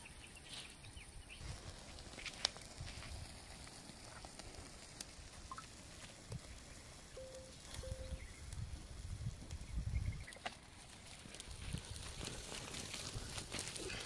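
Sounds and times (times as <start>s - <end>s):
cooking fire crackling: 0.0s - 14.0s.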